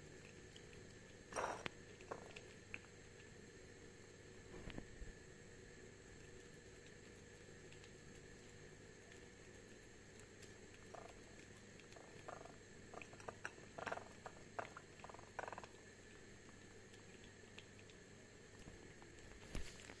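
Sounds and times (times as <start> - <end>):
kitten chewing and smacking: 0.0 - 20.0.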